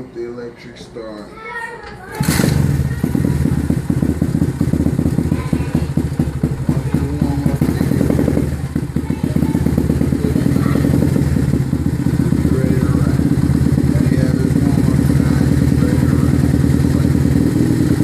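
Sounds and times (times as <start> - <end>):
dirt bike engine starting: 2.1 - 18.0.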